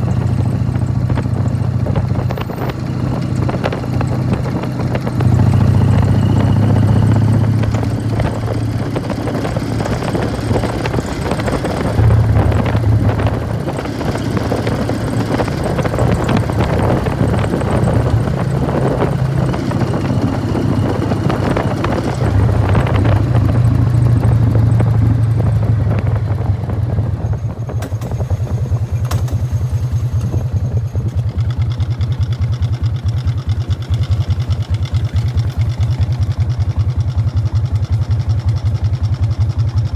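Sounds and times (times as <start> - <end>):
motorcycle engine deep exhaust: 0.0 - 39.9.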